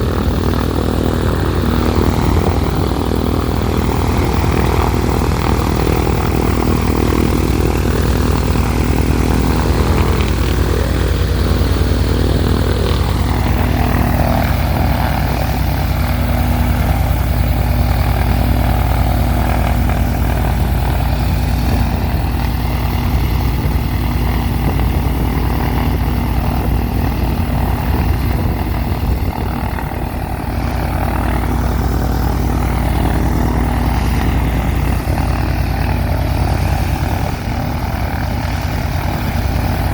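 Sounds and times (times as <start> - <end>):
aircraft piston engine and propeller: 0.0 - 39.9.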